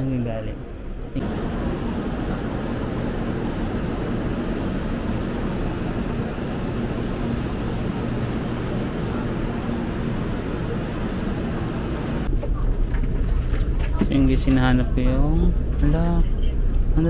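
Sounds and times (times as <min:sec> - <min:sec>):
train rushing rumble: 0:00.0 - 0:17.0.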